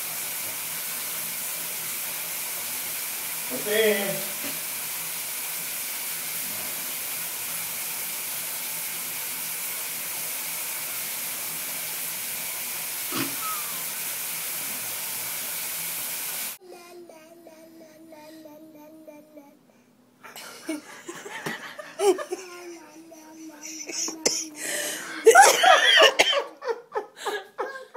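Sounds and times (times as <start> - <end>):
shower water spray hissing: 0.0 - 16.6, 20.4 - 26.2.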